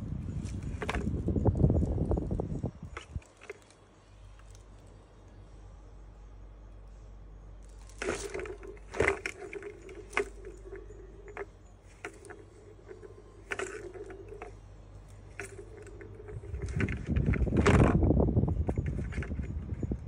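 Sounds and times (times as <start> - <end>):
plastic balls rolling in toy track: 0.2 - 4.9, 7.6 - 20.0.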